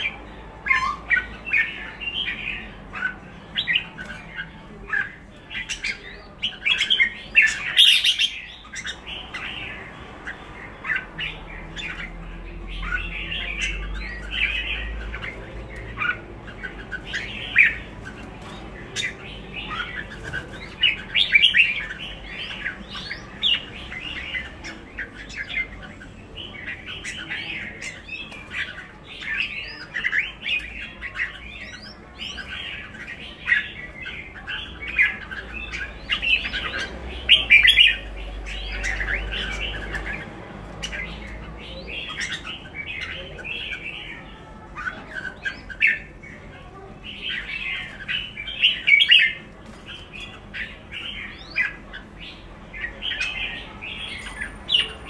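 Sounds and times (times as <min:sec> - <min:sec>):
birds chirping and calling: 0:00.0 - 0:55.0.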